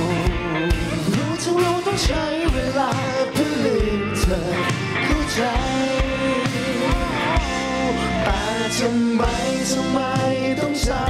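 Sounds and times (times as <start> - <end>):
live band playing pop-rock: 0.0 - 11.0
person singing: 0.0 - 11.0
steady drum beat: 0.0 - 11.0.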